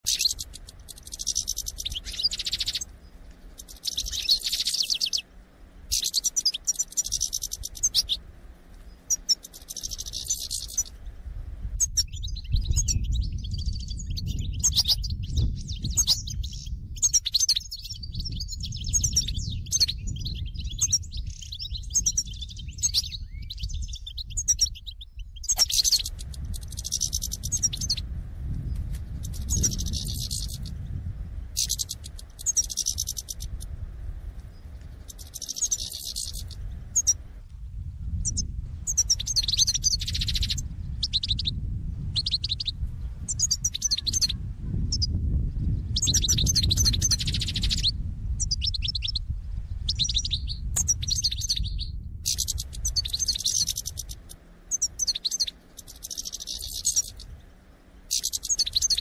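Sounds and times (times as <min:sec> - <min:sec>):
goldfinches twittering: 0:00.0 - 0:11.2, 0:11.8 - 0:28.1, 0:29.1 - 0:30.8, 0:31.5 - 0:33.8, 0:34.5 - 0:37.2, 0:38.2 - 0:41.6, 0:42.2 - 0:45.1, 0:46.0 - 0:49.2, 0:49.9 - 0:59.0
low rumble: 0:00.0 - 0:58.8.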